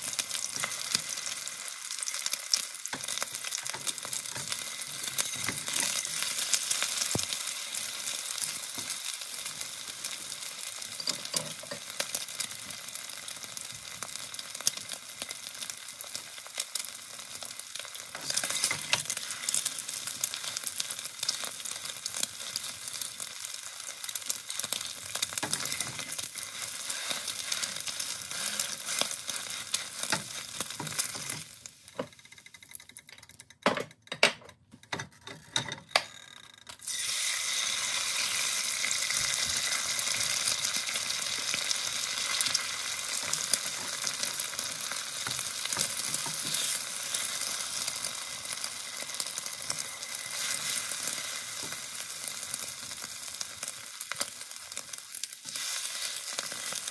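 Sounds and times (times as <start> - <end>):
egg sizzling in hot oil: 0.0 - 33.4, 36.7 - 56.9.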